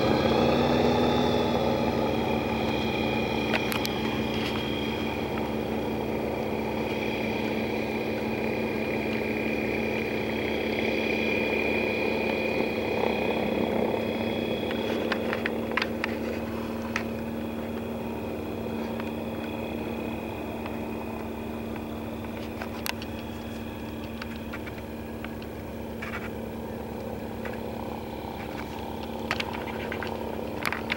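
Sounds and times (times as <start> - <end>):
aircraft propeller engine droning: 0.0 - 30.9.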